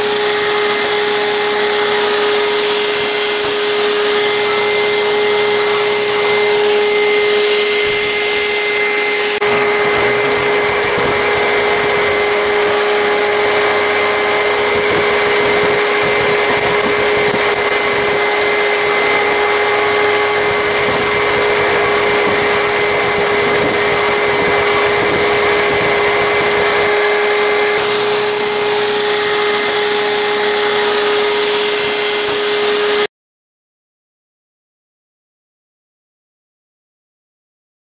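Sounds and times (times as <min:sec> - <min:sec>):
robot vacuum running: 0:00.0 - 0:33.1.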